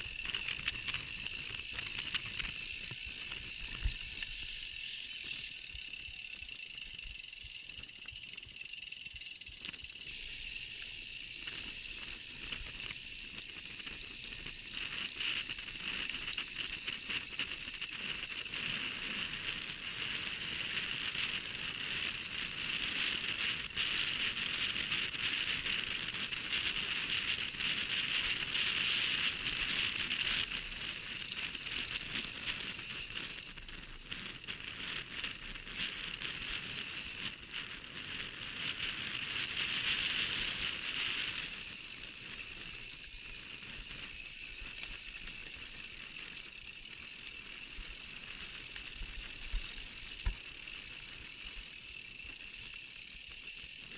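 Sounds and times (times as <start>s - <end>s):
bike rattling and clicking: 0.0s - 53.9s
steady hiss: 10.0s - 53.9s.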